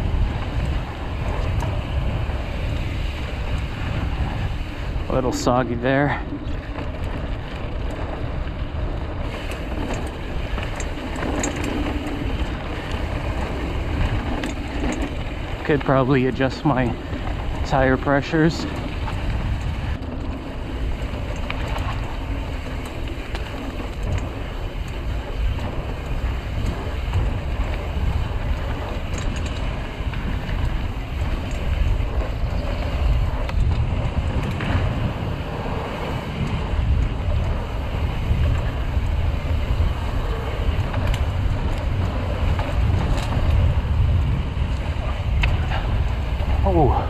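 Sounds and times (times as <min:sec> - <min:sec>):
bike tyres on dirt trail: 0:00.0 - 0:47.0
wind rushing on microphone: 0:00.0 - 0:47.0
light clicks and rattles: 0:09.3 - 0:47.0.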